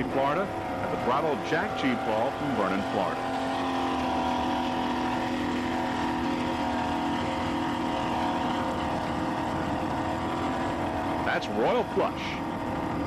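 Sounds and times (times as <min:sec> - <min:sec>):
powerboat engine drone: 0:00.0 - 0:13.0.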